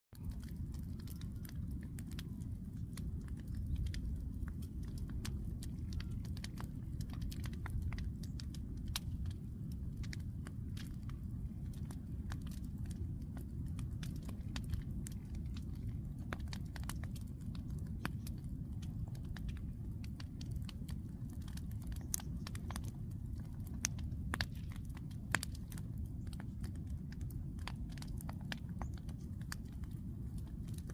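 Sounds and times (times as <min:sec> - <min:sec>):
low fire rumble: 0:00.1 - 0:30.9
bonfire crackling and popping: 0:00.2 - 0:30.9.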